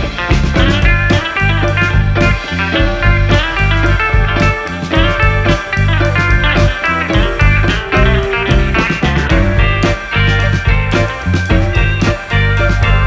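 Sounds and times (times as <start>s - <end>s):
blues-rock music with guitar: 0.0s - 13.0s.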